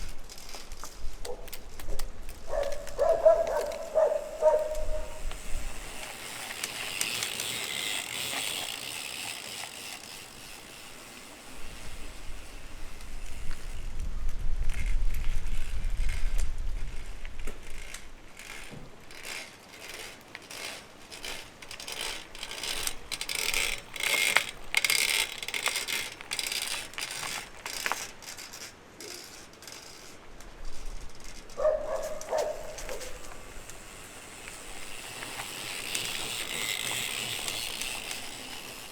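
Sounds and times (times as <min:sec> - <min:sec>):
bicycle hub creaking: 0:00.0 - 0:38.9.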